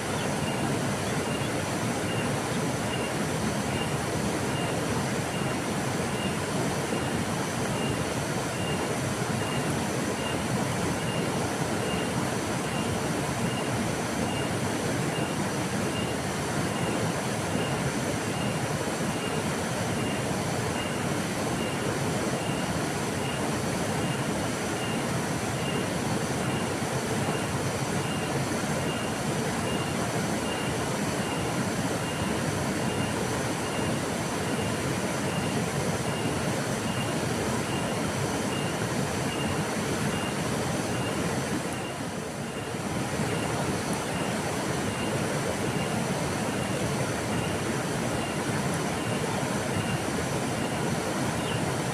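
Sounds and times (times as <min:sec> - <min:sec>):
river water flowing: 0:00.0 - 0:51.9.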